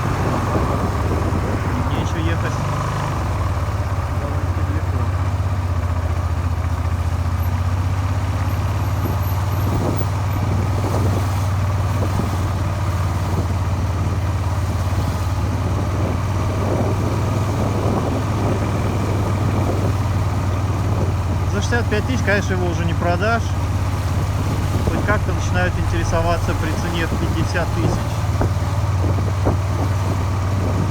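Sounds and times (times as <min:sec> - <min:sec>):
motorcycle engine running steadily: 0:00.0 - 0:30.9.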